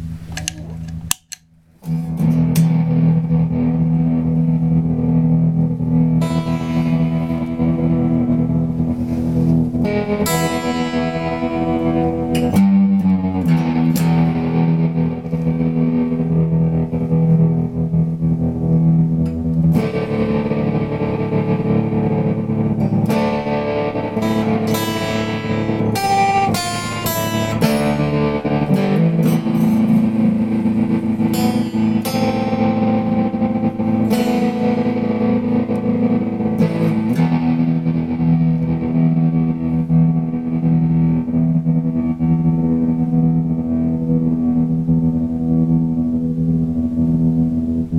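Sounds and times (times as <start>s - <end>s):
electric guitar with tremolo: 1.8s - 47.9s.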